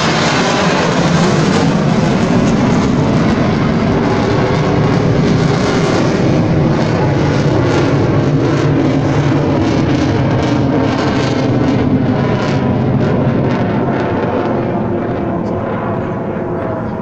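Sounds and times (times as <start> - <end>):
jet engine roar overhead: 0.0 - 17.0.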